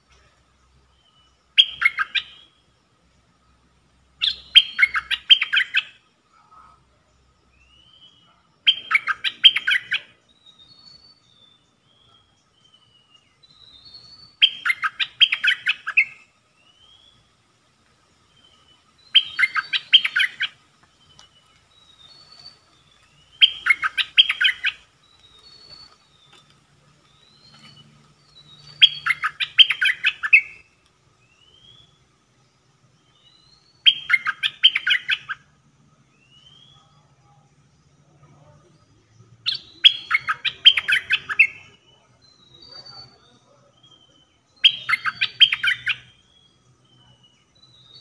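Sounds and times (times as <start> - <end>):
bulbul singing: 0.0 - 48.0.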